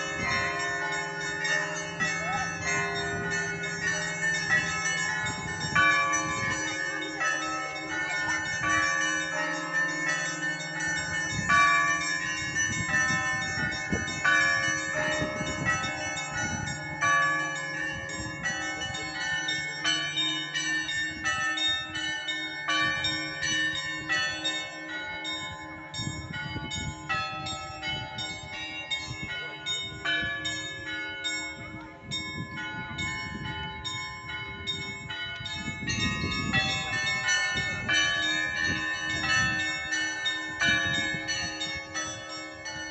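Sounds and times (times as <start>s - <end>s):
hum of large bells: 0.0s - 42.9s
small bells ringing quickly: 0.0s - 42.9s.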